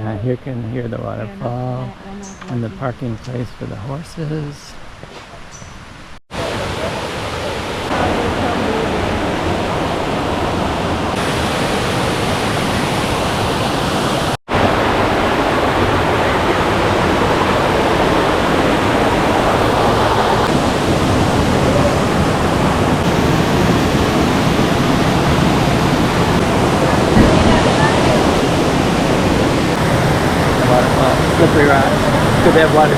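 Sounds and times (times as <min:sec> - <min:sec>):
waterfall roaring: 0:06.3 - 0:32.9.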